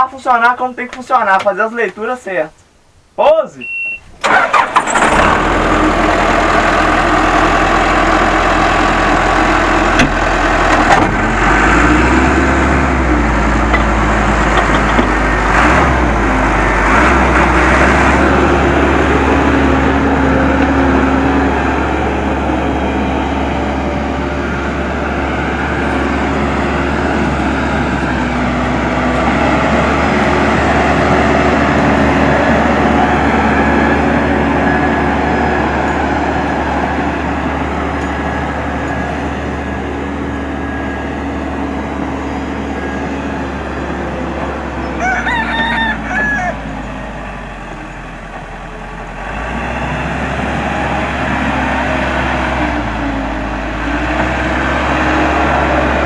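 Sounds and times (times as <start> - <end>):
backhoe diesel engine running: 4.2 - 56.0.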